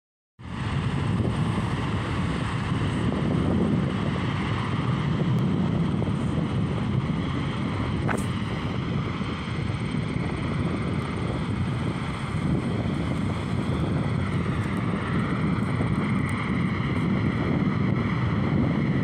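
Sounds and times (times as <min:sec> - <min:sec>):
jet engines rumbling: 0:00.4 - 0:19.0
wind on microphone: 0:00.4 - 0:19.0.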